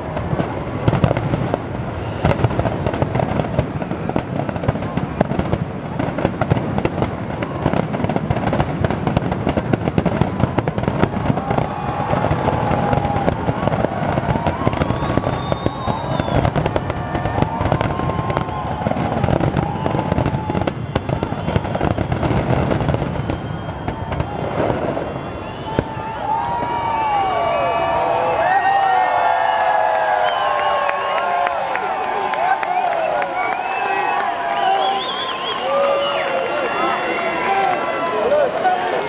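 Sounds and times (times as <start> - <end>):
firework whistles: 0.0 - 39.0
fireworks crackling bangs: 0.0 - 39.0.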